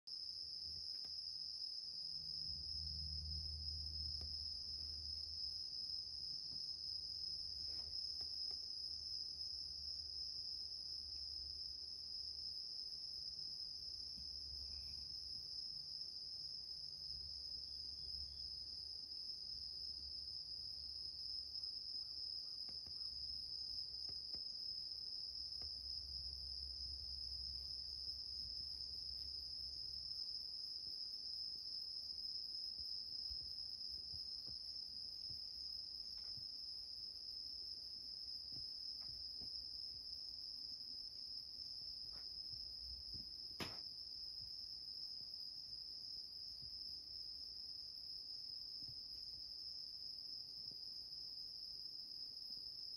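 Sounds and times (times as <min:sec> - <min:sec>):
crickets trilling: 0:00.3 - 0:50.9.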